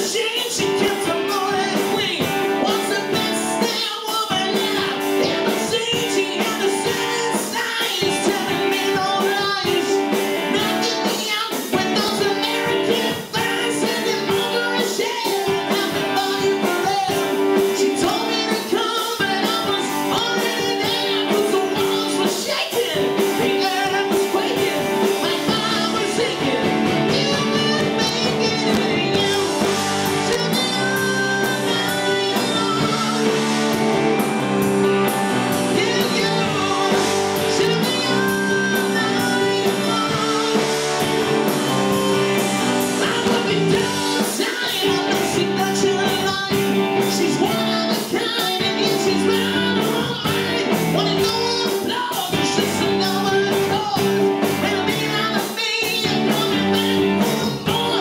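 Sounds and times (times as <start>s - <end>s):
bass guitar: 0.0s - 58.0s
drums: 0.0s - 58.0s
electric guitars: 0.0s - 58.0s
lead vocals: 0.0s - 58.0s.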